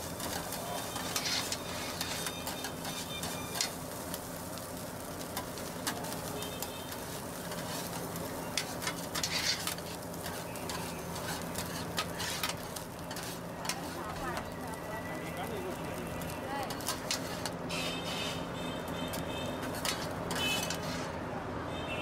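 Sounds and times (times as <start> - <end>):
spatula scraping griddle: 0.0 - 15.6, 16.2 - 21.2
steady sizzle: 0.0 - 21.4.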